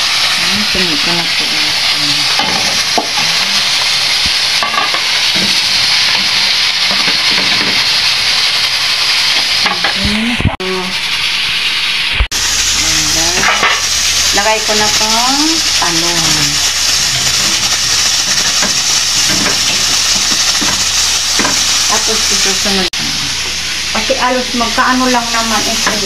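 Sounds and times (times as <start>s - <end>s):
food sizzling in a pot: 0.0s - 26.0s.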